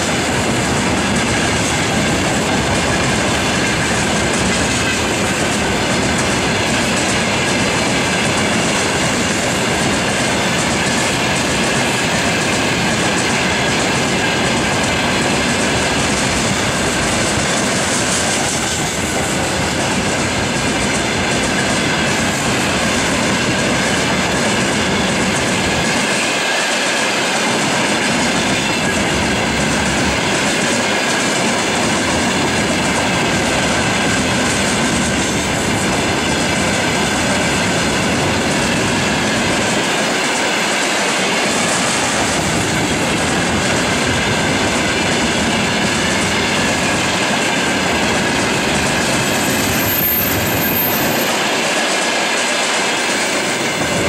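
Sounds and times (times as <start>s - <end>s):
clickety-clack over rail joints: 0.0s - 54.0s
freight train wheels rumbling: 0.0s - 54.0s.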